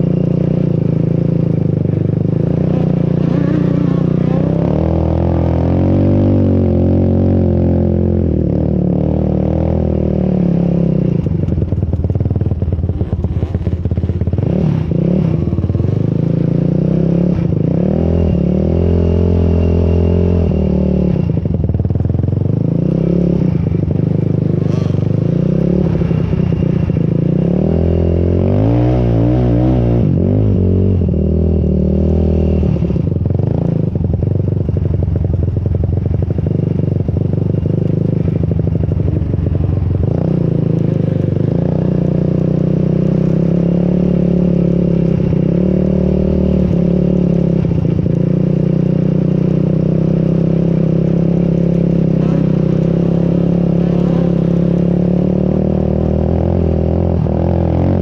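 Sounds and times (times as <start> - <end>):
off-road vehicle engine revving: 0.0 - 11.8, 12.6 - 21.6, 22.3 - 34.0, 37.6 - 58.0.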